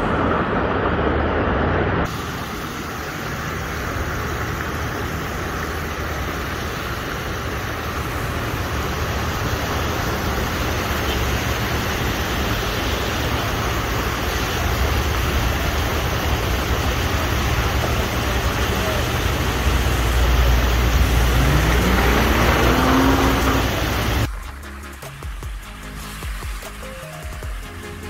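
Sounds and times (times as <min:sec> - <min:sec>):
floodwater rushing: 0:00.0 - 0:24.3.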